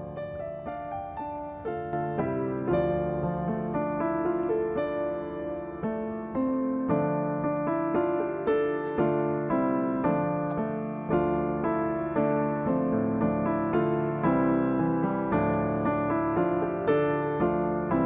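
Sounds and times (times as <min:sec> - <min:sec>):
soft piano music: 0:00.0 - 0:18.0.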